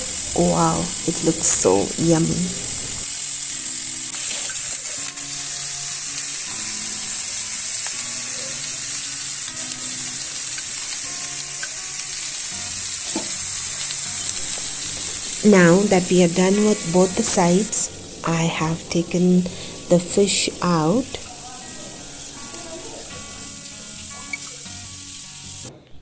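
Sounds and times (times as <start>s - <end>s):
fish sizzling in hot oil: 0.0s - 25.7s
faint piano music: 0.0s - 26.0s.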